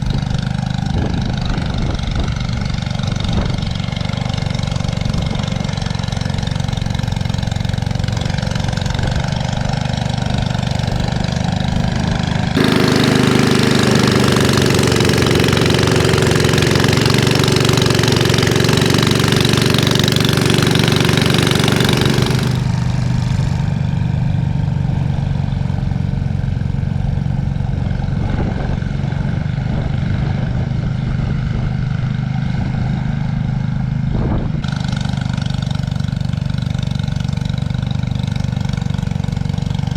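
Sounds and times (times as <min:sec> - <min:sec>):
snow thrower engine running: 0:00.0 - 0:39.9.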